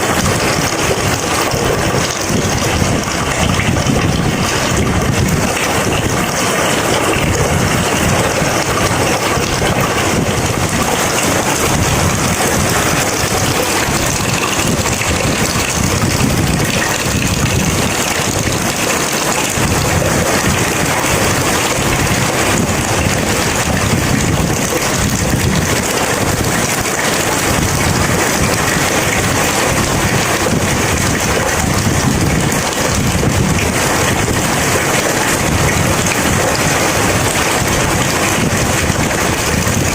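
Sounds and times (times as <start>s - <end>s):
heavy rain pouring: 0.0s - 39.9s
low rumble of thunder: 0.0s - 39.9s.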